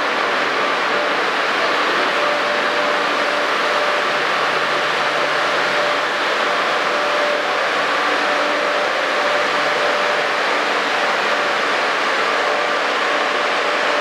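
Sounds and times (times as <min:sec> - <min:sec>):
platform noise rush: 0:00.0 - 0:14.0.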